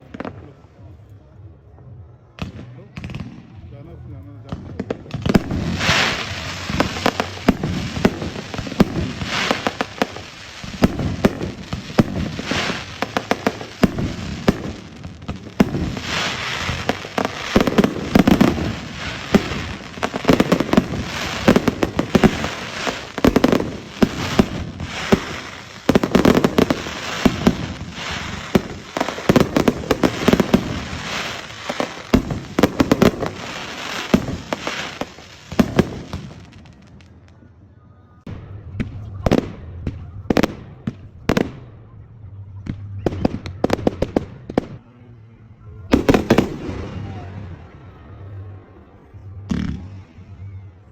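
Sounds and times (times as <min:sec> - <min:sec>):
fireworks bangs and crackles: 0:00.0 - 0:37.6, 0:38.2 - 0:45.0, 0:45.8 - 0:50.9.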